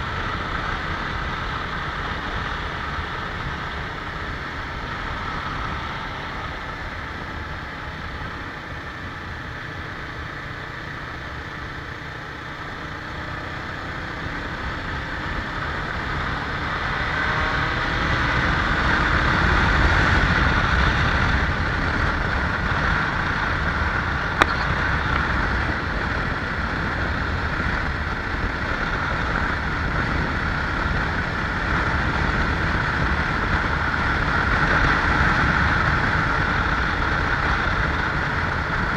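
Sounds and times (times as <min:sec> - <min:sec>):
road and wind noise: 0:00.0 - 0:38.9
vehicle engine: 0:00.0 - 0:38.9.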